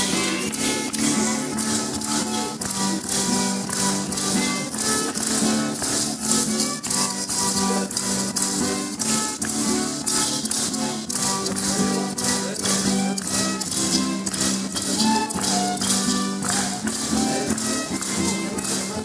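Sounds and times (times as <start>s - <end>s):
hand rattles shaken: 0.0s - 19.0s
high melody line: 0.0s - 19.0s
strummed guitar: 0.0s - 19.0s.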